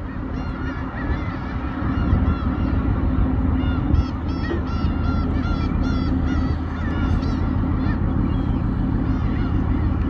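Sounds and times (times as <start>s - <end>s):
boat engine humming: 0.0s - 10.0s
gulls calling: 0.0s - 10.0s.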